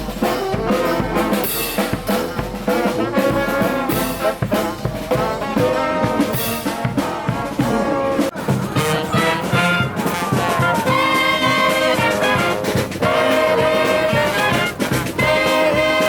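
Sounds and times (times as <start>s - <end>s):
steady drumming: 0.0s - 16.0s
trumpets and trombones: 0.0s - 16.0s.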